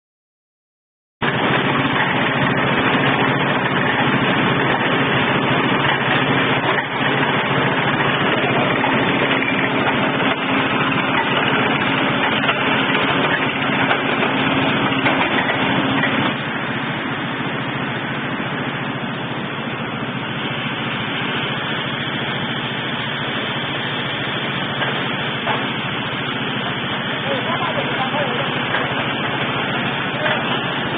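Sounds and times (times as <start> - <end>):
diesel engine running: 1.2 - 30.9
steady hum: 1.2 - 30.9.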